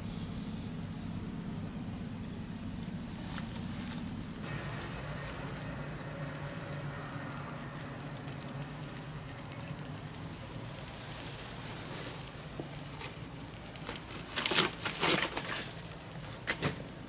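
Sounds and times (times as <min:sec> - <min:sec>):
steady low rumble: 0:00.0 - 0:14.1.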